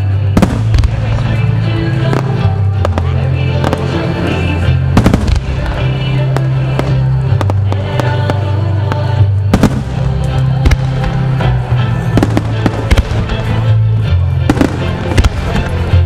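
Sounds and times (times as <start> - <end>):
firework bursts and bangs: 0.0 - 16.0
music with steady bass line: 0.0 - 16.0.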